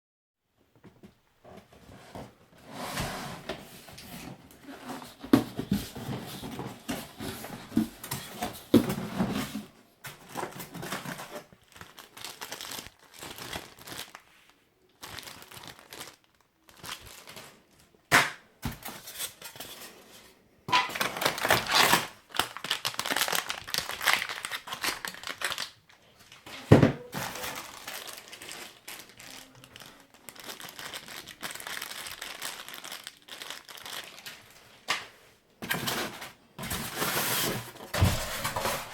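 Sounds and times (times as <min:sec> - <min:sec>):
packaging crinkling and rustling: 0:03.6 - 0:18.0, 0:18.6 - 0:20.1, 0:20.7 - 0:38.9.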